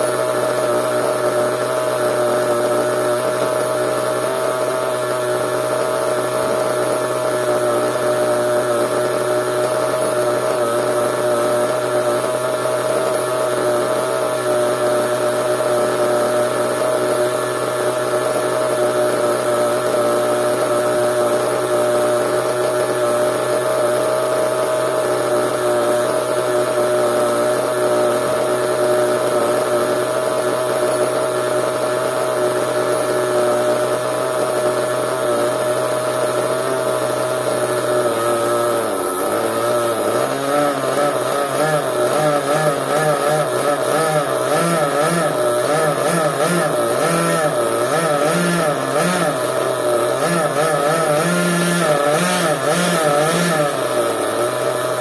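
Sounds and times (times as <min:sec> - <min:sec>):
small model engine running: 0:00.0 - 0:55.0.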